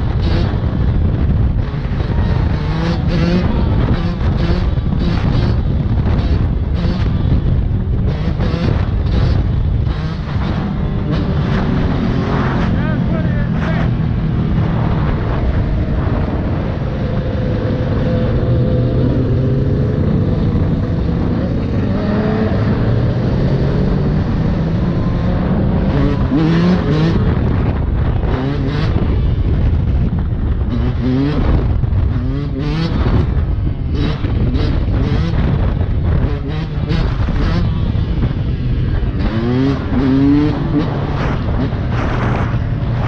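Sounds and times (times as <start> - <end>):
wind rumble on microphone: 0.0 - 43.0
dirt bike engine revving: 1.6 - 29.4, 30.5 - 43.0.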